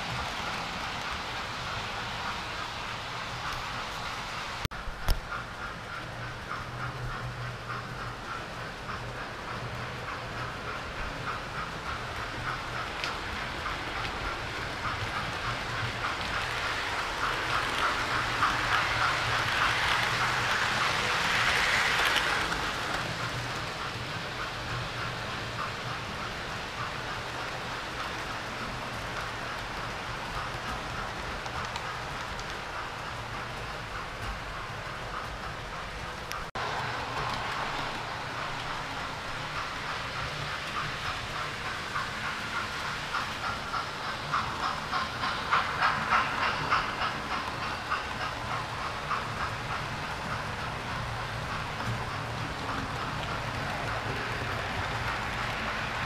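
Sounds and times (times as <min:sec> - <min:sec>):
regular clicking of rails: 0:00.0 - 0:56.0
model train wheels rattling: 0:05.1 - 0:56.0.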